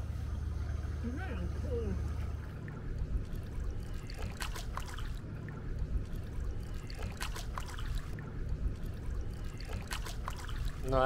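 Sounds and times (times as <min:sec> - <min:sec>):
steady low rumble: 0:00.0 - 0:10.9
water splashing in a pool: 0:01.7 - 0:11.0.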